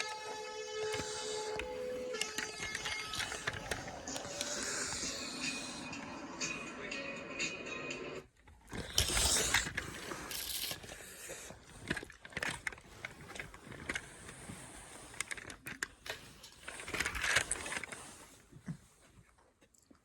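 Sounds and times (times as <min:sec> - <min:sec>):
toy cars scraping and clicking: 0:00.0 - 0:18.5.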